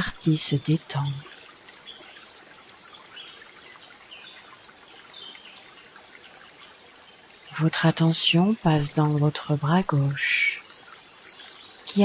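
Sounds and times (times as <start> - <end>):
birds chirping faintly: 0.0 - 12.0
trickle of running water: 0.0 - 12.0.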